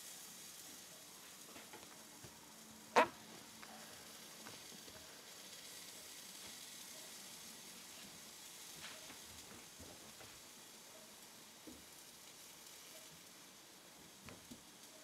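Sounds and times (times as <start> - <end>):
fish sizzling on a grill: 0.0 - 15.0.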